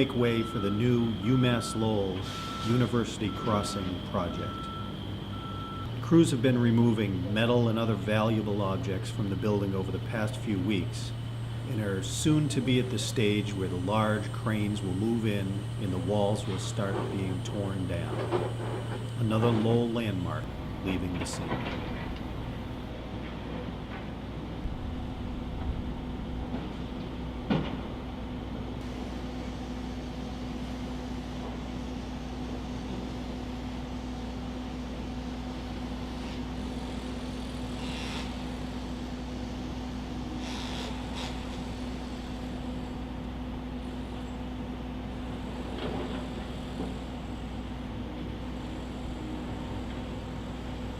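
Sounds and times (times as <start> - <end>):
constant low hum: 0.0 - 50.9.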